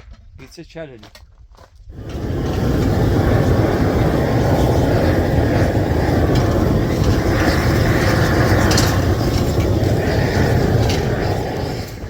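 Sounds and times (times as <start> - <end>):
loud steady rumbling: 2.0 - 12.0.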